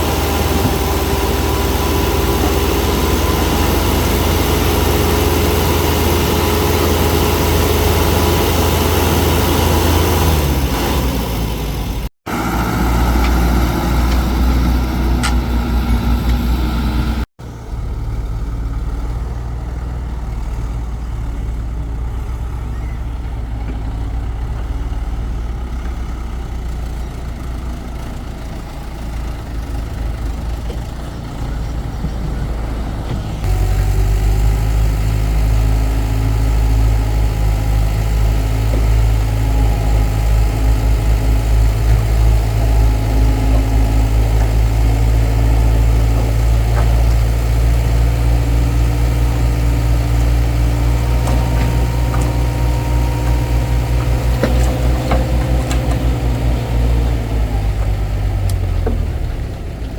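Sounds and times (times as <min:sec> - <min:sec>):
heavy machine engine humming: 0:00.0 - 0:59.9.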